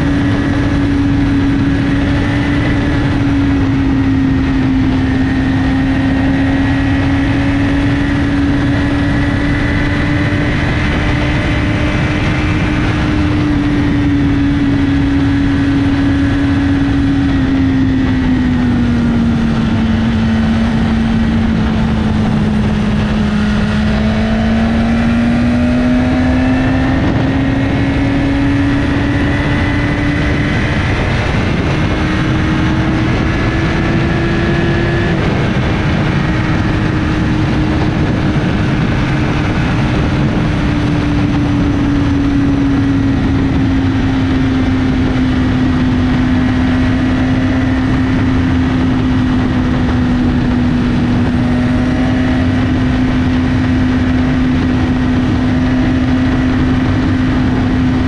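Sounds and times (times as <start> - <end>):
motorcycle engine cruising: 0.0 - 58.0
wind and road noise: 0.0 - 58.0.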